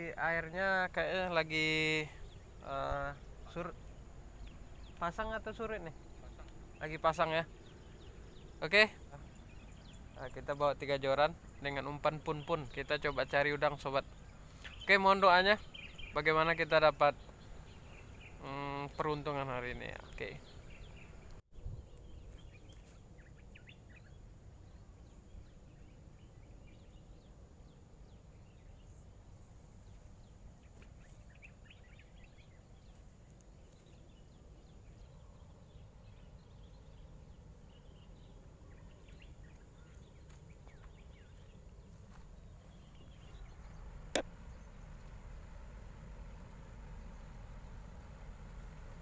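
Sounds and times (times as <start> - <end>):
faint bird chirps: 0.0 - 49.0
low background rumble: 0.0 - 49.0.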